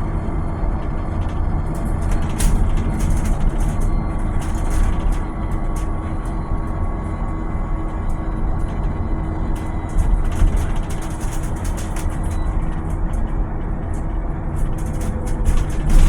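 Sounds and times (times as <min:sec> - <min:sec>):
electric bus running: 0:00.0 - 0:16.0
light rattles and clicks: 0:00.8 - 0:16.0.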